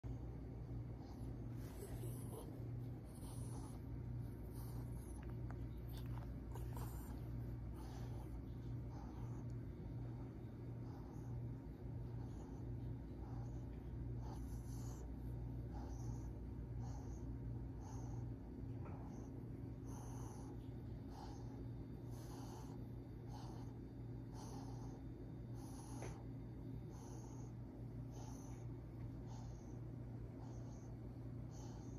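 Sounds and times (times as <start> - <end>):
soft close breathing: 0.0 - 31.9
steady low hum: 0.0 - 31.9.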